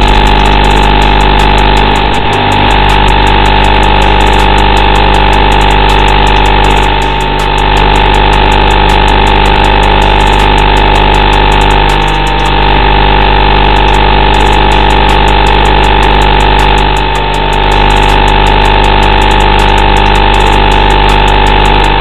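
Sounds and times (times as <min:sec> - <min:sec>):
electronic buzz with high tone: 0:00.0 - 0:22.0.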